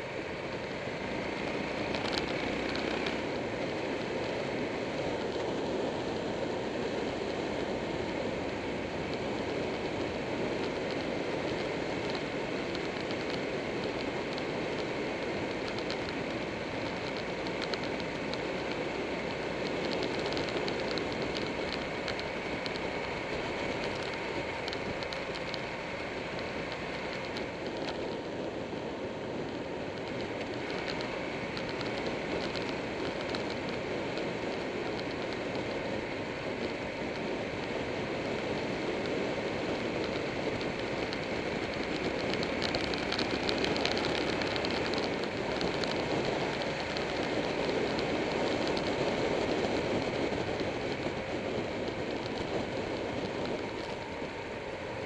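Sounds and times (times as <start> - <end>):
motorcycle engine running: 0.0 - 55.0
road noise: 0.0 - 55.0.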